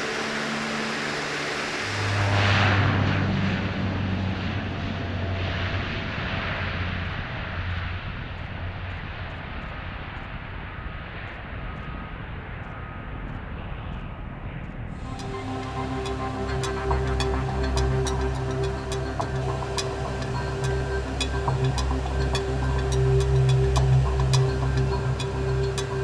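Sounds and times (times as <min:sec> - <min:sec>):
aircraft engines running: 0:00.0 - 0:26.0.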